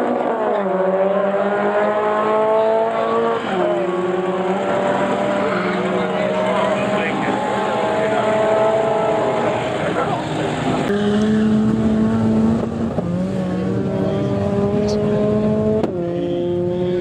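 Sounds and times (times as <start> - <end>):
car engines idling drone: 0.0 - 17.0.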